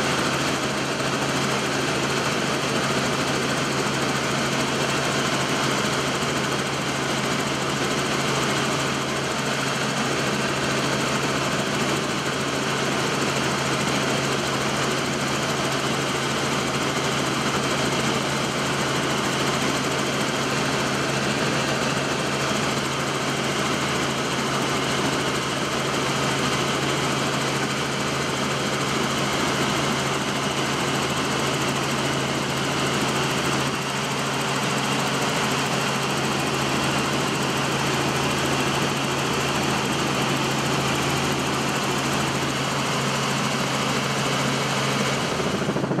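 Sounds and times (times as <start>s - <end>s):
helicopter engine and rotor: 0.0s - 46.0s.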